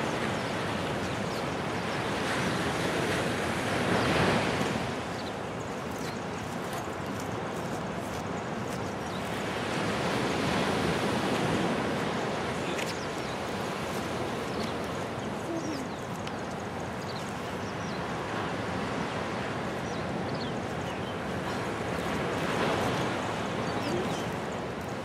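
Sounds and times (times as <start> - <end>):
ocean surf rushing: 0.0 - 6.6, 9.0 - 25.0.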